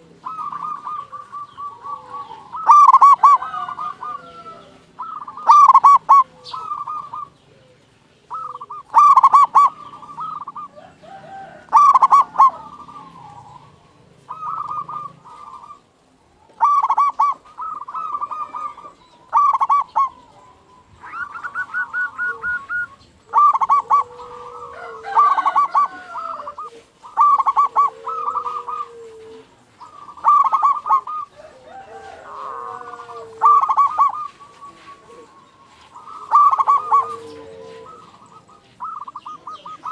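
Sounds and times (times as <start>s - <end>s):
dove rolling coos: 0.0s - 39.9s
soft gliding dove calls: 0.0s - 39.9s.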